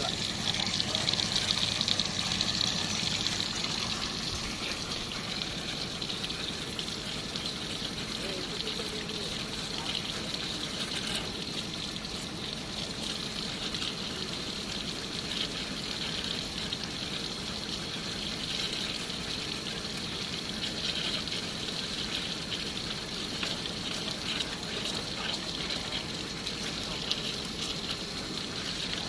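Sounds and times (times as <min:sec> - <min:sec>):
water running from a hose: 0:00.0 - 0:29.0.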